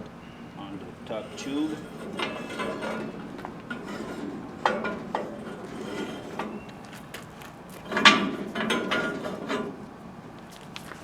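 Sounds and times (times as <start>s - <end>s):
metallic clank and scrape: 0.8s - 9.9s.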